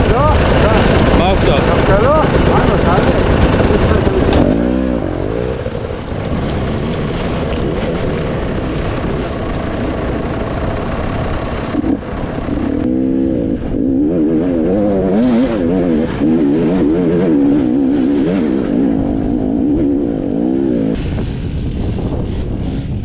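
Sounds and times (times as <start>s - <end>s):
dirt bike engine revving: 0.0s - 21.0s
low rough engine noise: 0.0s - 23.0s.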